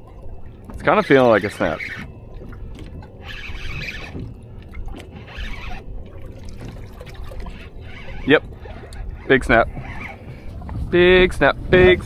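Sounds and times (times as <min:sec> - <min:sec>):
water splashing against boat hull: 0:00.0 - 0:12.0.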